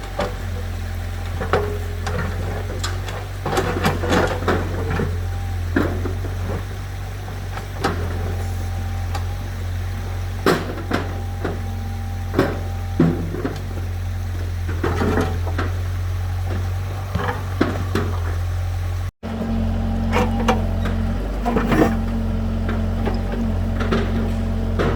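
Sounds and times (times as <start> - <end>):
tractor engine idling: 0.0 - 24.9.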